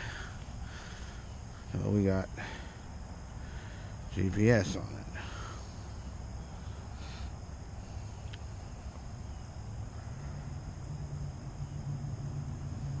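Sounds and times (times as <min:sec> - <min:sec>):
low hum: 0:00.0 - 0:13.0
steady low rumble: 0:00.0 - 0:13.0.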